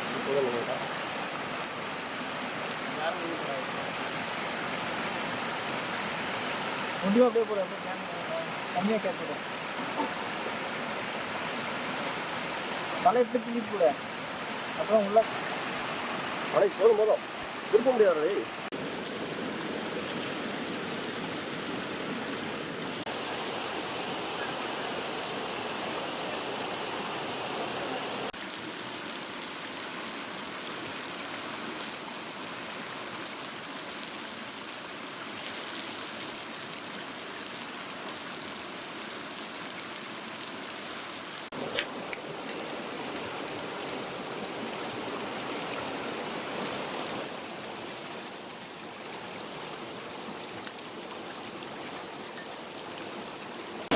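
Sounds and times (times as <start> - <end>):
stream and waterfall rushing: 0.0 - 53.9.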